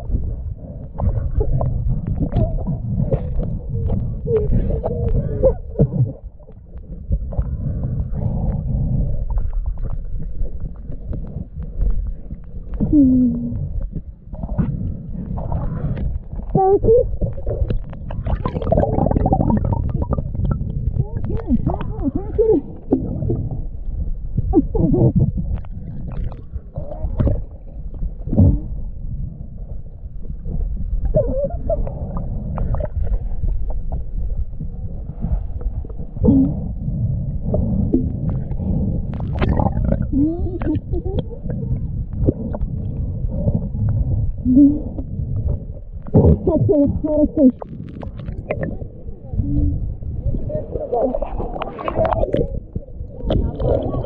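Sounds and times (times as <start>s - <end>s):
muffled underwater rumble: 0.0s - 54.0s
water gurgling and bubbling: 0.0s - 54.0s.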